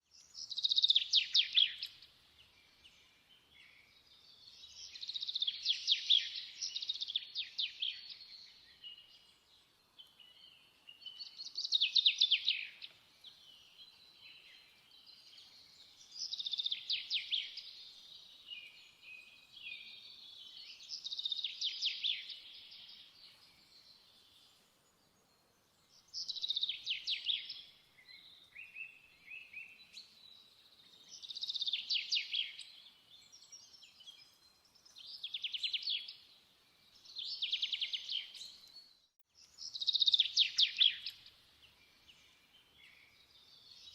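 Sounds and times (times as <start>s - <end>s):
quiet bird chirps: 0.0s - 43.9s.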